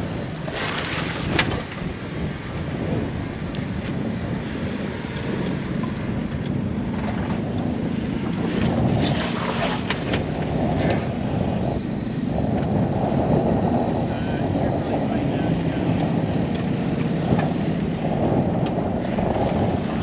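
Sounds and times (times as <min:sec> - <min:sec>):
wind buffeting microphone: 0:00.0 - 0:20.0
off-road vehicle engine running: 0:01.2 - 0:20.0.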